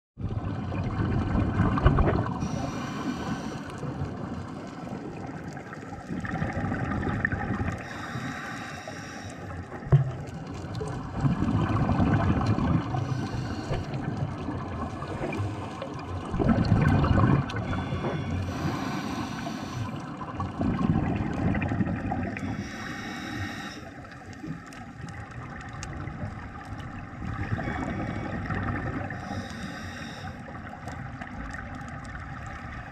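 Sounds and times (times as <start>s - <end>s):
underwater exhalation bubbling: 0.2s - 8.1s, 9.6s - 23.1s, 24.5s - 29.8s.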